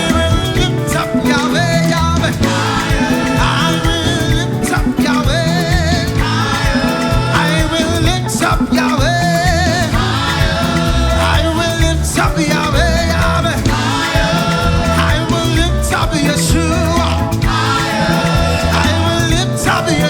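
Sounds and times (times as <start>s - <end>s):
live band music with beat: 0.0s - 20.0s.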